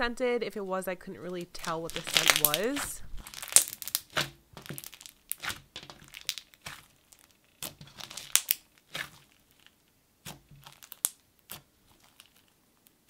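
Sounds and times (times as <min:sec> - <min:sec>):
slime popping and crackling: 0:01.3 - 0:13.0.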